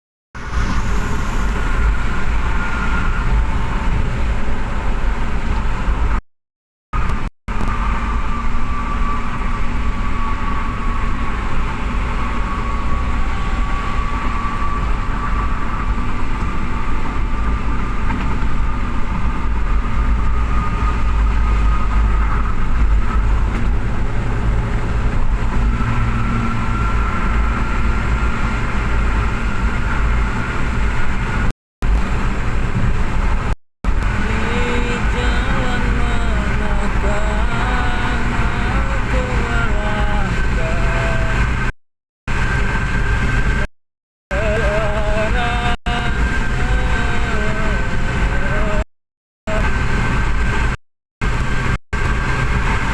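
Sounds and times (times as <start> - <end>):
engine rumbling: 0.4 - 6.2, 7.0 - 43.7, 44.3 - 48.9, 49.5 - 52.9
faint engine whine: 0.4 - 6.2, 7.0 - 43.7, 44.3 - 48.9, 49.5 - 52.9.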